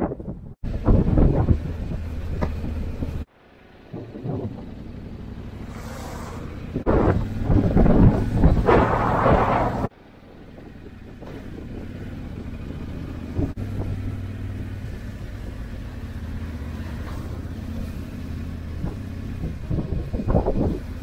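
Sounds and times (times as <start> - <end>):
wind buffeting microphone: 0.0 - 3.3, 3.9 - 5.6, 6.4 - 16.3, 18.6 - 21.0
motorcycle engine running: 0.6 - 21.0.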